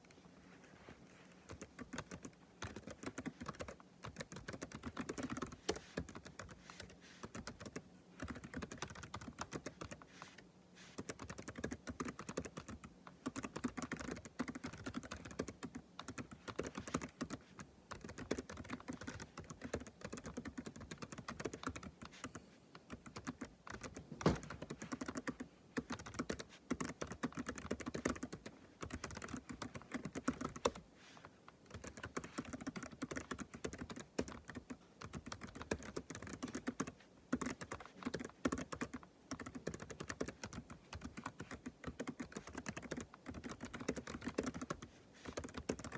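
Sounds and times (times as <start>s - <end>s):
typing on computer keyboard: 1.5s - 10.0s, 11.0s - 30.8s, 31.7s - 45.9s.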